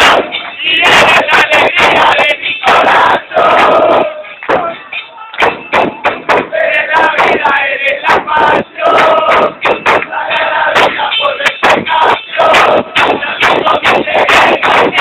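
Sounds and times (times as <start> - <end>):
crowd chanting and shouting: 0.0 - 15.0
sharp knocks or claps: 0.0 - 15.0.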